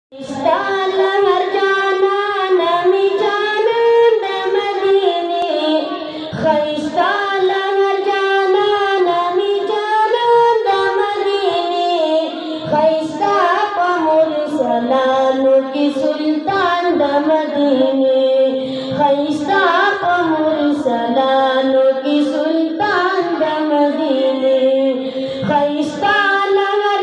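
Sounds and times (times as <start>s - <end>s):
boy singing into a microphone: 0.1s - 27.0s.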